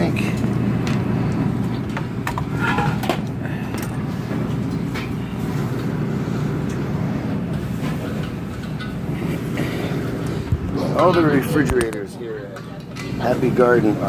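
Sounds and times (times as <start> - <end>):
refrigerator compressor hum: 0.0 - 14.0.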